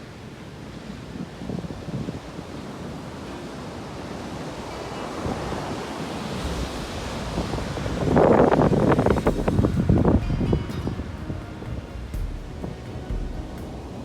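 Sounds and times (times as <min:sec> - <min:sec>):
waves washing in: 0:00.0 - 0:14.0
wave crashing: 0:00.8 - 0:14.0
wind buffeting microphone: 0:01.0 - 0:14.0.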